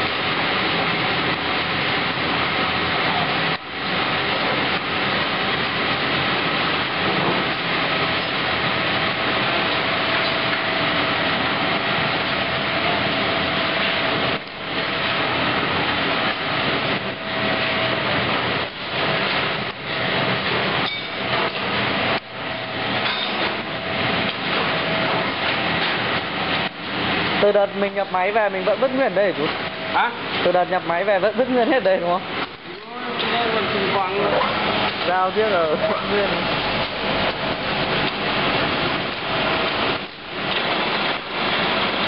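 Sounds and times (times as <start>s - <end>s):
factory machinery din: 0.0s - 42.0s
machinery whine: 0.0s - 42.0s.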